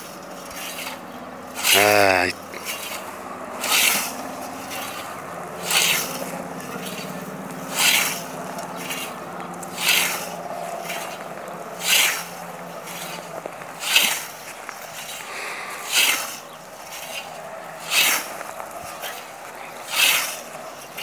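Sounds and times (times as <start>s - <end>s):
scythe swishing through grass: 0.3s - 1.8s, 2.6s - 9.2s, 9.8s - 11.2s, 11.8s - 21.0s.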